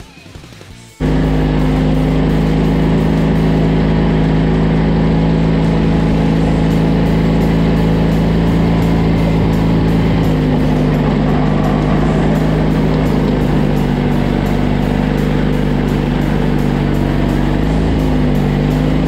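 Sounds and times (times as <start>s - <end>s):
garden tractor engine running: 1.0s - 19.0s.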